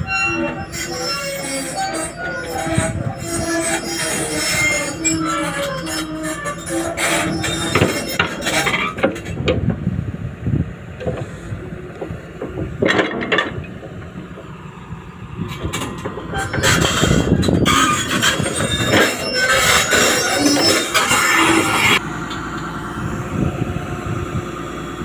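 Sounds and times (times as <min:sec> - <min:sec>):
excavator engine running: 0:00.0 - 0:25.0
excavator tracks clanking and squealing: 0:00.0 - 0:25.0.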